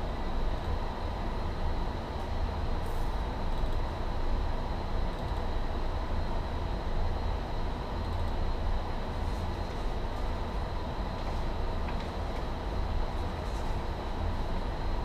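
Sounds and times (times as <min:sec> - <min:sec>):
ventilation rumble: 0:00.0 - 0:15.0.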